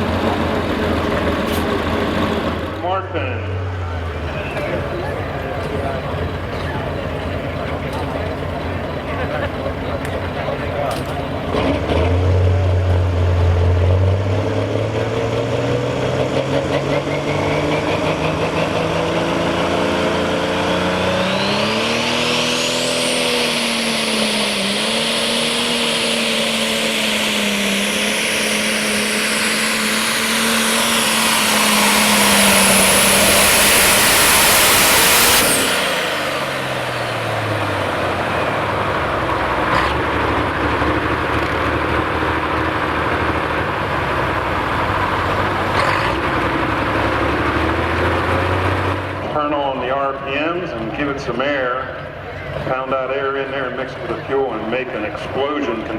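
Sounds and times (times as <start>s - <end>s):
diesel tractor engine at full power: 0.0s - 55.9s
high turbo whine: 0.0s - 55.9s.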